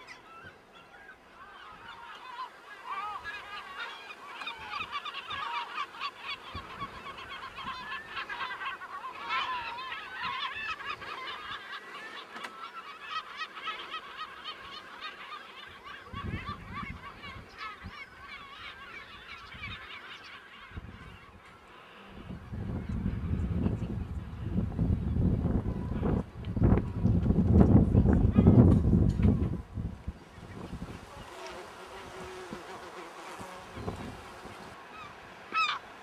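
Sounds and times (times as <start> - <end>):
gulls calling: 0.0 - 27.0, 28.0 - 36.0.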